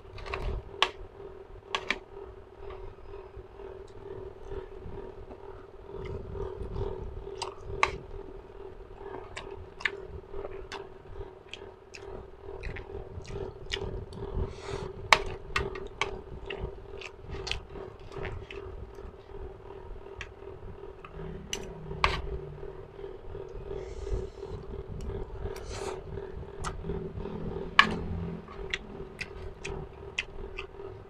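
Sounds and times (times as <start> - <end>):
steady low hum: 0.0 - 31.0
person chewing food: 3.8 - 8.2, 9.0 - 31.0.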